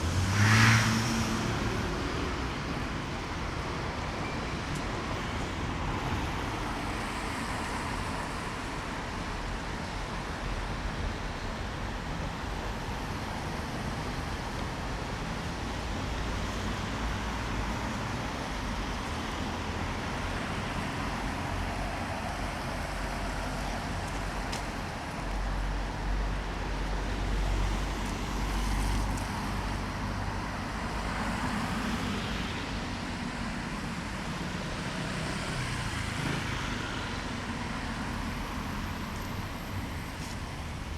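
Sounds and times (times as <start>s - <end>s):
traffic on wet road: 0.0s - 40.9s.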